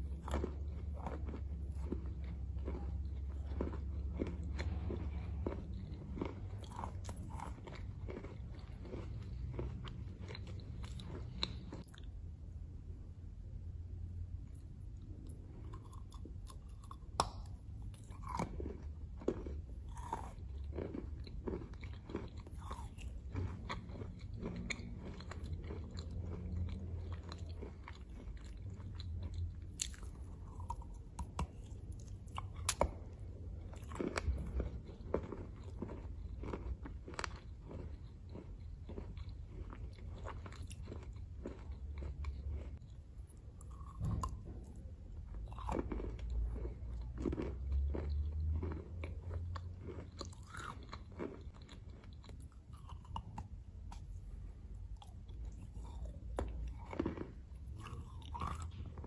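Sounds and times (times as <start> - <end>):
crumbly chewing: 0.0 - 12.3, 14.4 - 59.0
faint low hum: 0.0 - 59.0.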